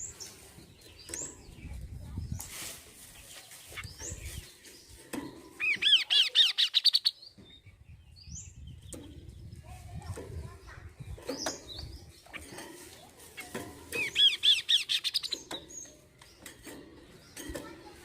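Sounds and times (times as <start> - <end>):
bird chirping: 0.0 - 2.5, 3.1 - 9.8, 10.5 - 17.7
bird calls: 0.0 - 18.0.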